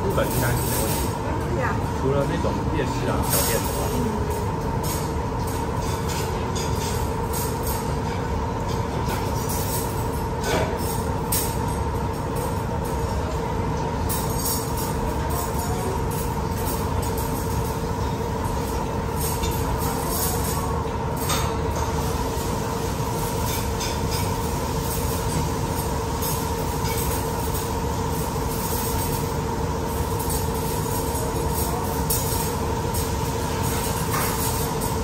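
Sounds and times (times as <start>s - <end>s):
ventilation unit rumble and hum: 0.0s - 35.0s.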